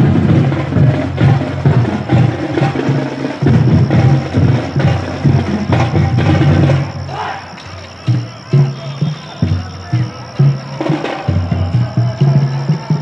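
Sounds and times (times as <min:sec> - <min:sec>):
drums playing loud beat: 0:00.0 - 0:13.0.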